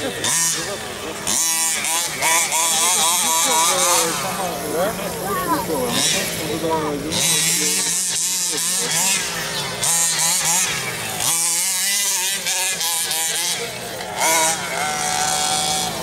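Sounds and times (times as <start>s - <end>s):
model car engine revving: 0.0s - 16.0s.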